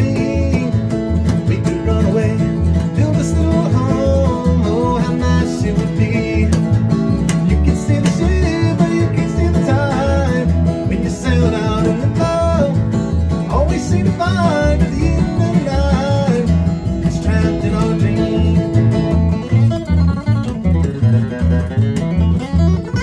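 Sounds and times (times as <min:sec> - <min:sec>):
acoustic guitar bluegrass tune: 0:00.0 - 0:23.0
plucked double bass: 0:00.0 - 0:23.0.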